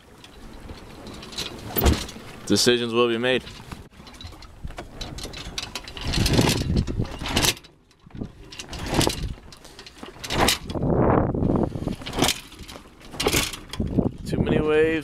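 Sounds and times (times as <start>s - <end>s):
sail and rigging knocks and rustles: 0.0s - 15.0s.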